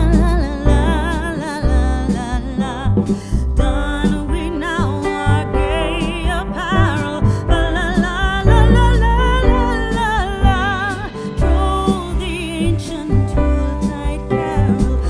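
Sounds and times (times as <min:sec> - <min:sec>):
song with singing and guitar: 0:00.0 - 0:15.0.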